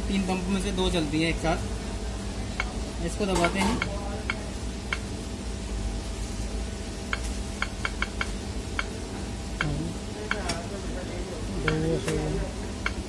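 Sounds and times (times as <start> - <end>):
oven humming: 0.0 - 13.0.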